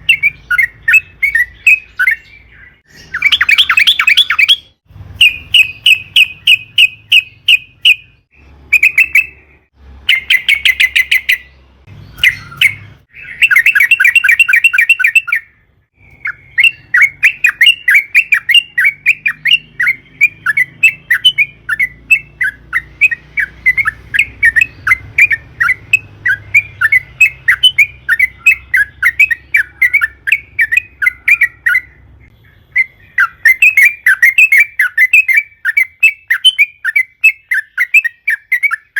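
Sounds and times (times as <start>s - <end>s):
bird chattering calls: 0.0s - 9.5s, 12.2s - 38.9s.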